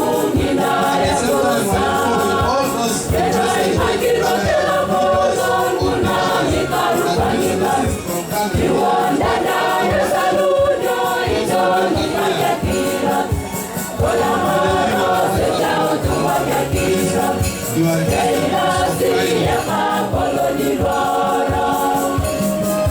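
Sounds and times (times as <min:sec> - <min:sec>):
choir singing a hymn: 0:00.0 - 0:22.9.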